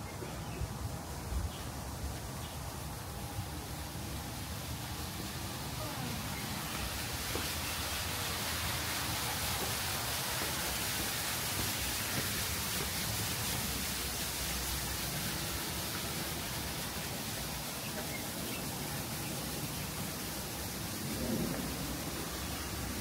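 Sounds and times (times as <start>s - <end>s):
outdoor hiss-like rush: 0.0s - 23.0s.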